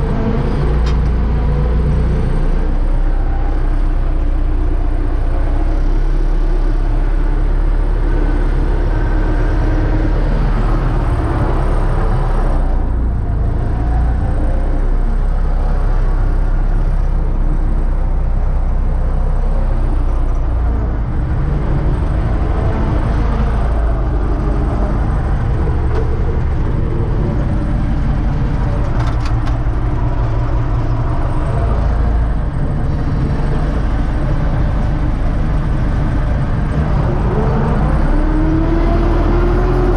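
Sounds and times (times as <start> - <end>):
tractor diesel engine running: 0.0 - 38.5.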